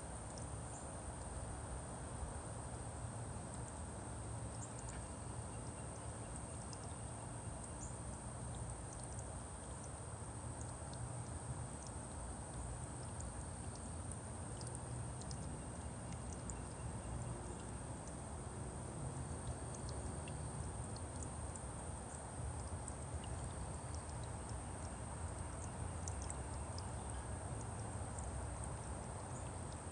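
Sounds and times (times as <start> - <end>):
outdoor hiss and low rumble: 0.0 - 29.9.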